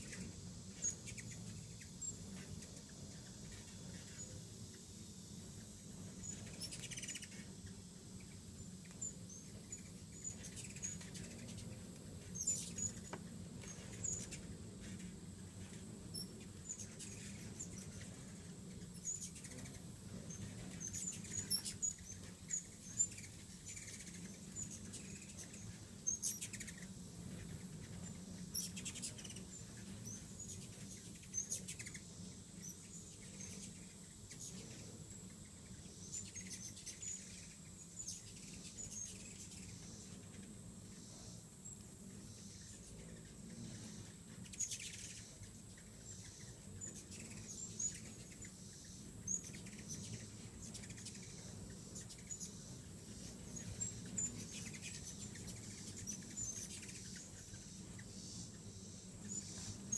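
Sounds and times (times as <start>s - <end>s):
hummingbirds chittering: 0.0s - 59.9s.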